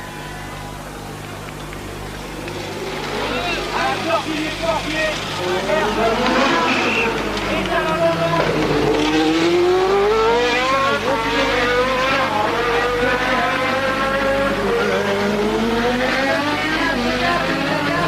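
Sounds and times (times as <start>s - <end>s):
racing car engines accelerating: 0.0s - 18.0s.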